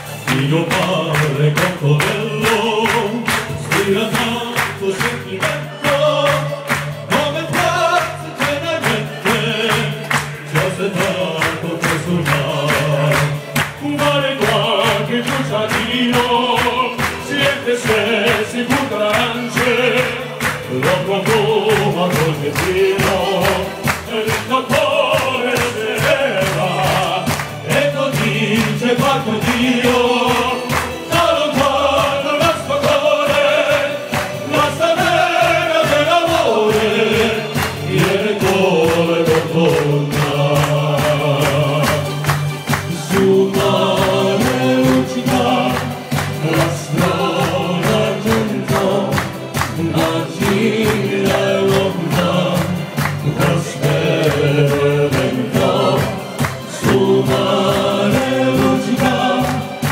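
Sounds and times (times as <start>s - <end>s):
amplified backing music with beat: 0.0s - 59.9s
men singing in harmony: 0.0s - 59.9s.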